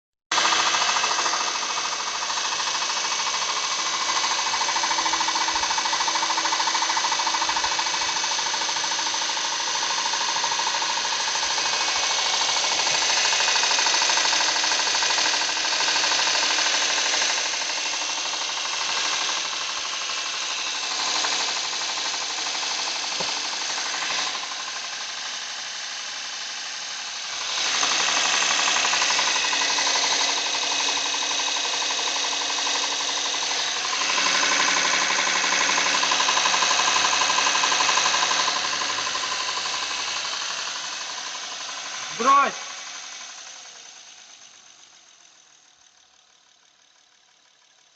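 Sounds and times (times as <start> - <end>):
car engine running: 0.3 - 45.1
fast metallic engine knocking: 0.3 - 47.9.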